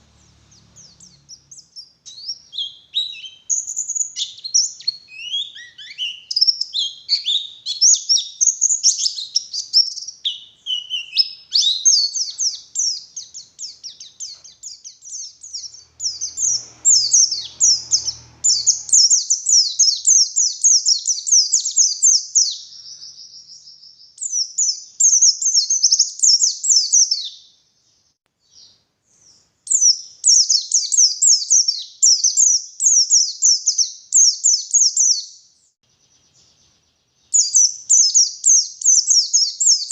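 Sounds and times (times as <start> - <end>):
bird chirping and warbling: 0.0 - 27.5, 28.5 - 39.9.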